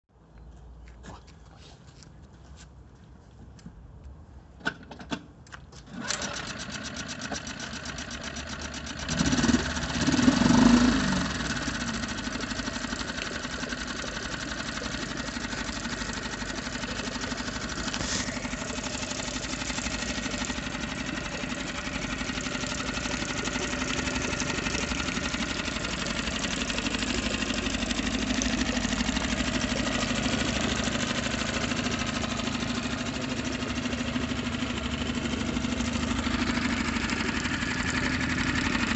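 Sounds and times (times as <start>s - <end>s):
outboard motor running: 5.9s - 38.9s.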